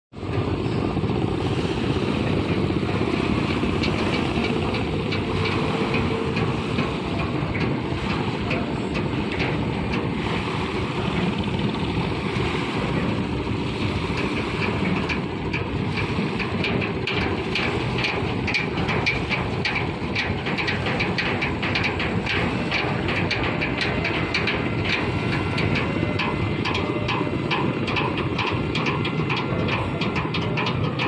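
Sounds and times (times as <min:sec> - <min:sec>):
boat engine rumble: 0:00.1 - 0:31.0
rapid engine clattering: 0:00.1 - 0:31.0.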